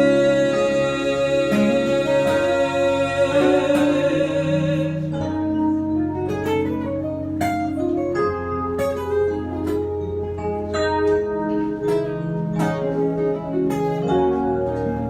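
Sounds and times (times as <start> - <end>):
held chords: 0.0 - 15.0
plucked notes: 0.0 - 15.0.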